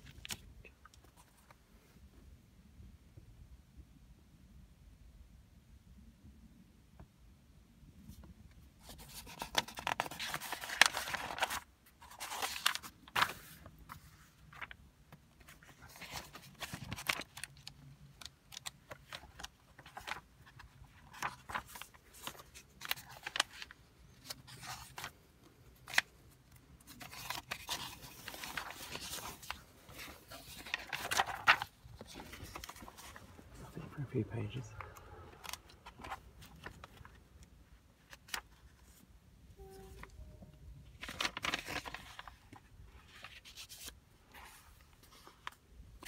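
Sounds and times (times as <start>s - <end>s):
paper pages rustling: 0.0s - 1.6s, 8.8s - 39.1s, 41.0s - 46.0s.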